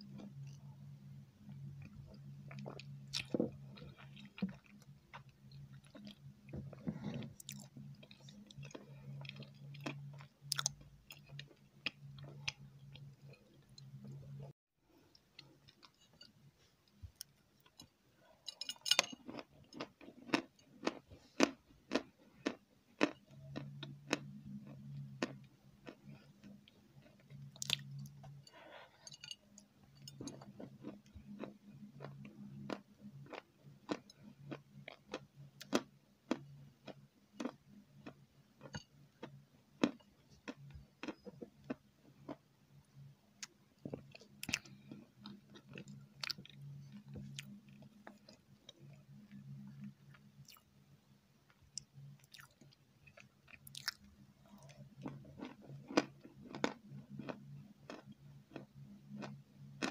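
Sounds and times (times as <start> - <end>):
low steady hum: 0.0 - 59.9
person chewing: 1.6 - 42.4, 43.4 - 50.7, 51.8 - 59.9.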